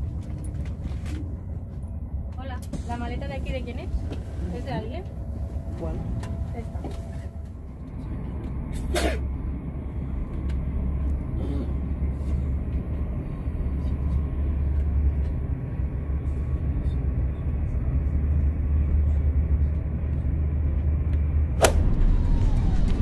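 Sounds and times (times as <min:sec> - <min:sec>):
high-speed train rumble: 0:00.0 - 0:23.0.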